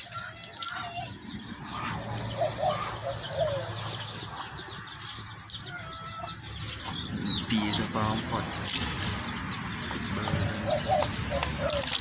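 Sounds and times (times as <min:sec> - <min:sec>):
bird calls: 0:00.0 - 0:12.0.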